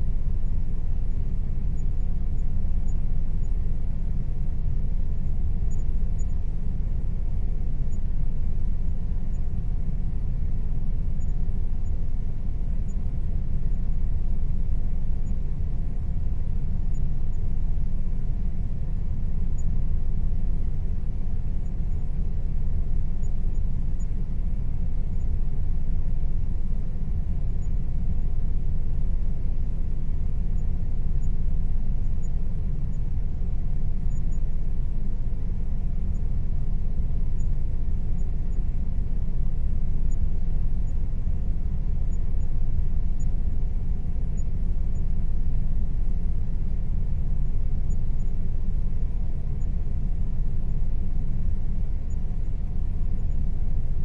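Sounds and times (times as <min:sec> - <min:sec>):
faint steady tone: 0:00.0 - 0:54.0.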